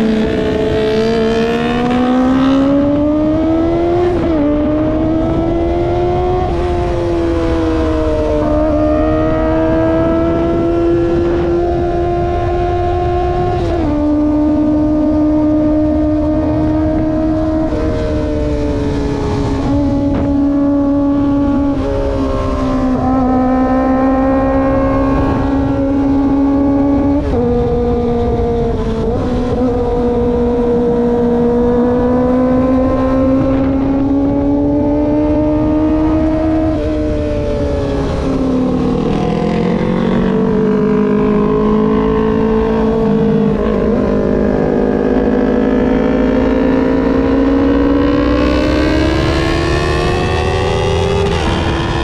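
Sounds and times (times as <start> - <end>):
motorcycle engine at high revs: 0.0 - 52.0
wind rush: 0.0 - 52.0.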